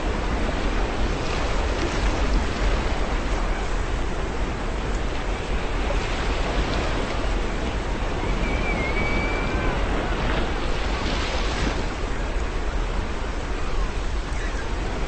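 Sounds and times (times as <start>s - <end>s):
sea waves washing: 0.0s - 15.0s.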